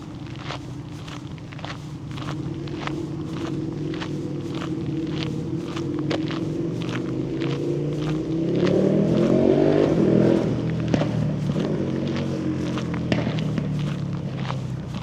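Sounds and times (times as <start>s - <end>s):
footsteps: 0.0s - 15.0s
motor vehicle passing: 0.0s - 15.0s.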